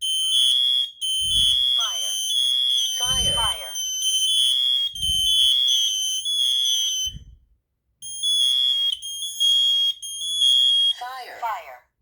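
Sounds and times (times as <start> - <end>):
smoke alarm shrill beeps: 0.0 - 7.4, 8.0 - 11.1.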